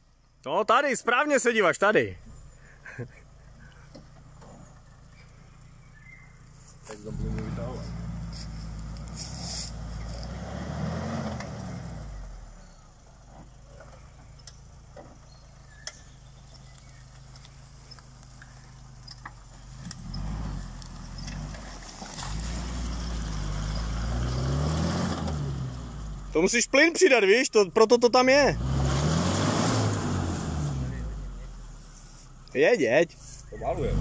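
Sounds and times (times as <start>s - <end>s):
vehicle engine idling and revving: 1.8s - 34.0s.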